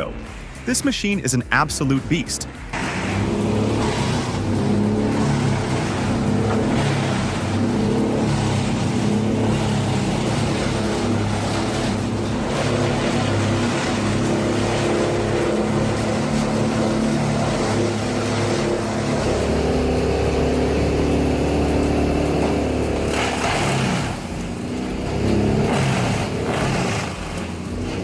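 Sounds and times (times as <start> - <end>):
chipper drum grinding tree: 0.0 - 28.0
wood chipper engine running: 2.4 - 28.0.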